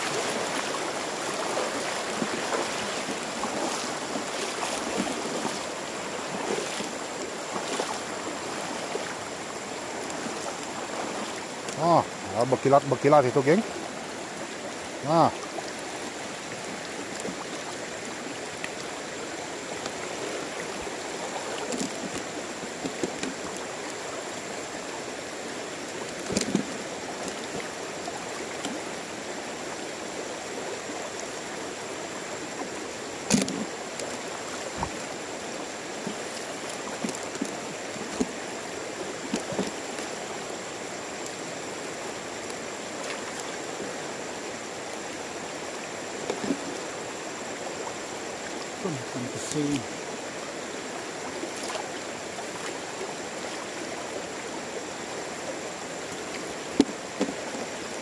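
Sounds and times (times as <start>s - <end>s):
river current flowing around legs: 0.0s - 58.0s.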